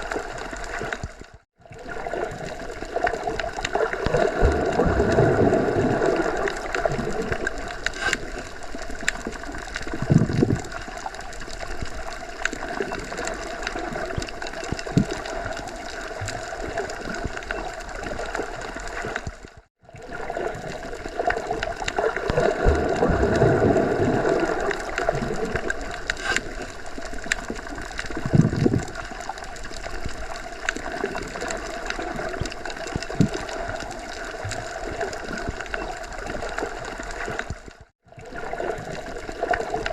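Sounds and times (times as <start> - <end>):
underwater water wash: 0.0 - 39.9
bubbles surging: 1.6 - 19.3, 19.9 - 37.4.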